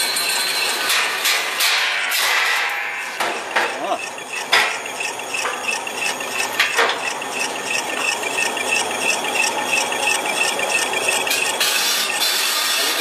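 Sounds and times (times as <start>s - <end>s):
high repeating squeak: 0.0s - 1.2s, 3.0s - 13.0s
machinery running: 0.0s - 13.0s.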